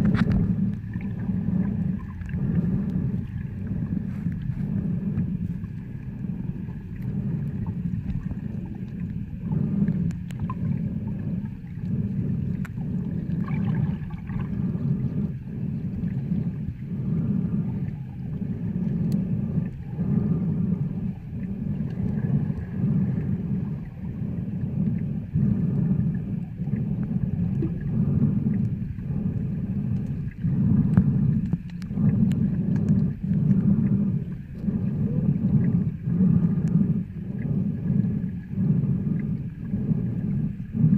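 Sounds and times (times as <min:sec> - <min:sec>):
muffled underwater water rumble: 0:00.0 - 0:40.9.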